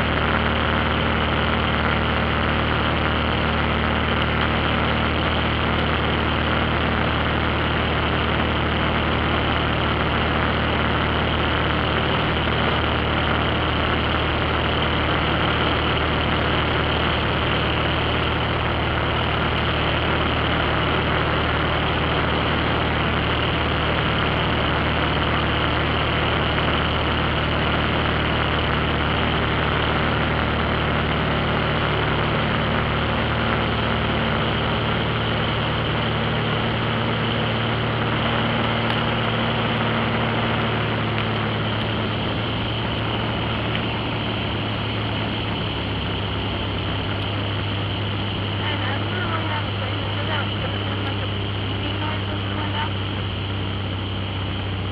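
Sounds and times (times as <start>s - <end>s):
airplane engine drone: 0.0s - 54.9s
constant hiss: 0.0s - 54.9s.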